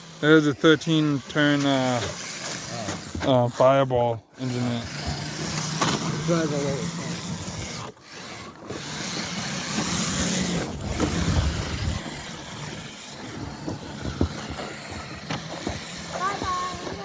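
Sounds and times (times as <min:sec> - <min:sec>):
rc truck motor and tyres: 0:00.0 - 0:17.0.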